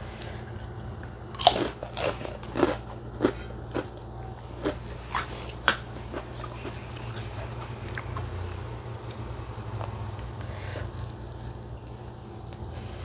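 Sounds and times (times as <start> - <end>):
steady low hum: 0.0 - 13.0
crunching crisp food: 1.0 - 13.0.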